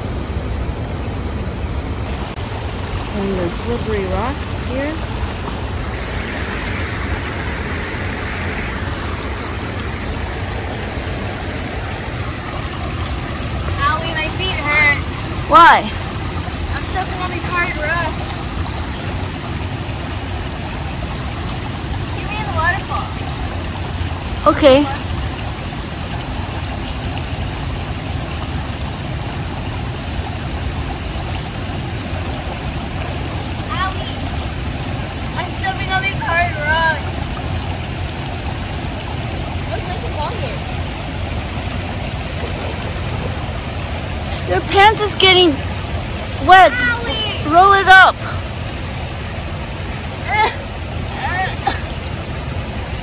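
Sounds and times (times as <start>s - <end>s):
river rushing over rapids: 0.0s - 53.0s.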